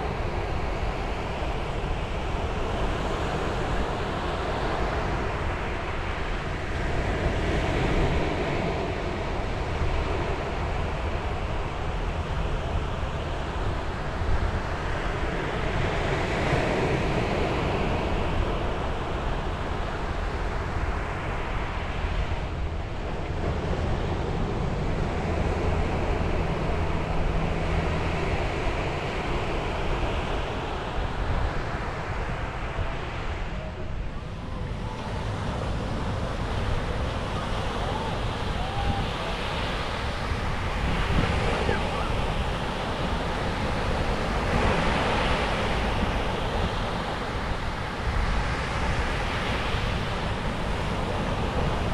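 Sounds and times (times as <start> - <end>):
ocean waves breaking on beach: 0.0 - 51.9
wind buffeting microphone: 0.0 - 51.9.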